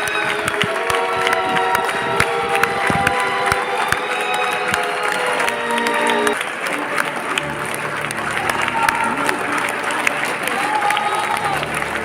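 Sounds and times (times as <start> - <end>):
audience applauding and cheering: 0.0 - 12.0
held musical notes: 0.0 - 12.0.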